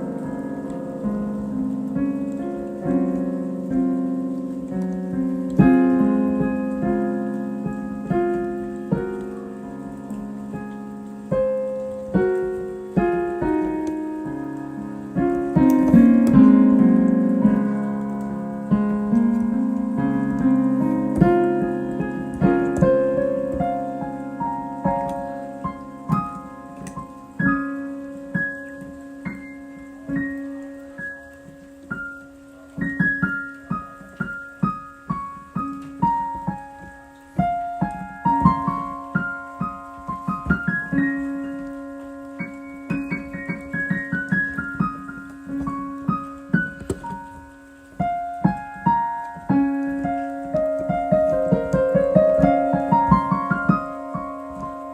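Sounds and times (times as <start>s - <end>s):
solo piano: 0.0s - 54.9s.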